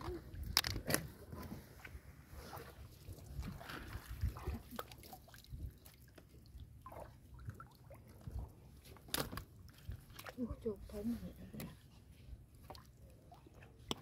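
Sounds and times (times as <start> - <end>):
water drips and splashes: 2.4 - 14.0.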